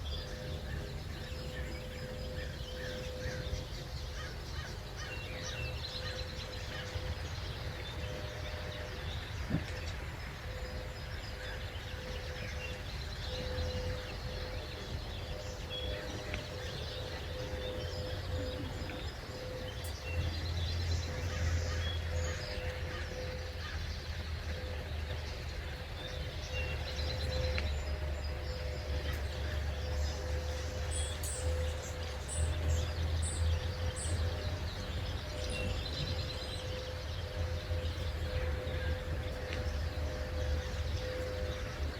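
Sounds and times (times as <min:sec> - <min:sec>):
faint steady hum: 0:00.0 - 0:41.9
small birds chirping: 0:00.0 - 0:41.9.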